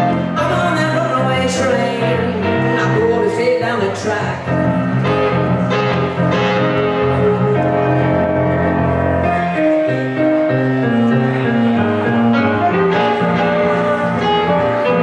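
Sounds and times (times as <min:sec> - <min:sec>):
bass line: 0:00.0 - 0:15.0
electric guitar playing: 0:00.0 - 0:15.0
keyboard playing: 0:00.0 - 0:15.0.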